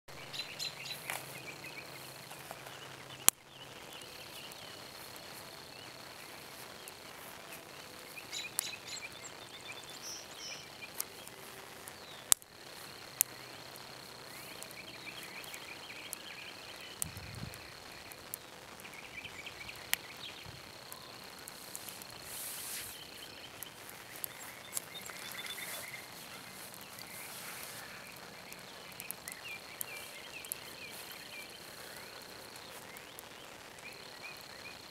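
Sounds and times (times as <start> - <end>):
birds chirping: 0.1 - 34.9
insects trilling: 0.1 - 34.9.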